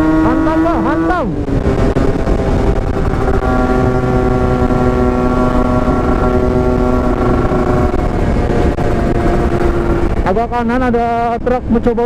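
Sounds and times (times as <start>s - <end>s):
motorcycle engine on open throttle: 0.0s - 12.0s
wind rush over microphone: 0.0s - 12.0s.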